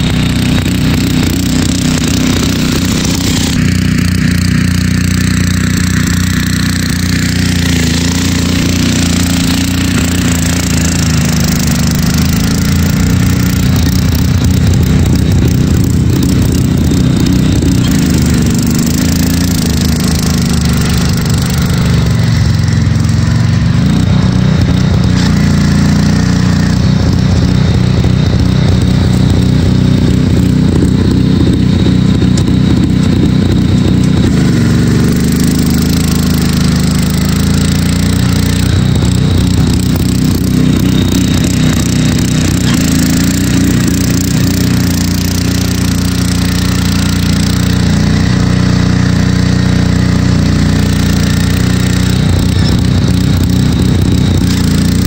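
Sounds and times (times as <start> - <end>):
garden tractor engine under load: 0.0 - 55.0.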